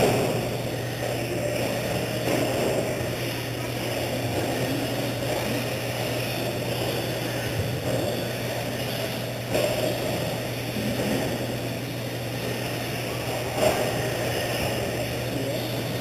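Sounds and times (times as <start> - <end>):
rc truck motors whirring: 0.0 - 16.0.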